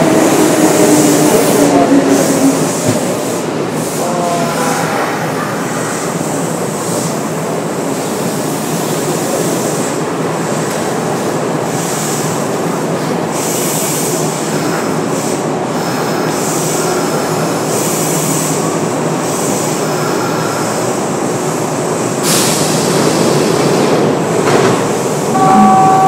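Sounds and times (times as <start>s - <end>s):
train wheels rumbling on rail: 0.0s - 25.4s.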